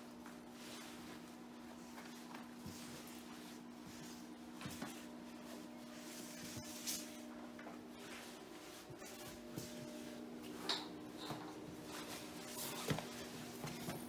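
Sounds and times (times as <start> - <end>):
steady low hum: 0.0 - 14.0
hose scuffing on concrete: 0.3 - 10.6, 11.2 - 14.0.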